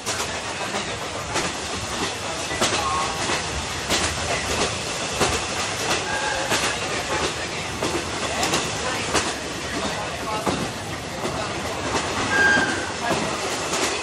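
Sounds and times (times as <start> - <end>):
train coach running noise: 0.0 - 14.0.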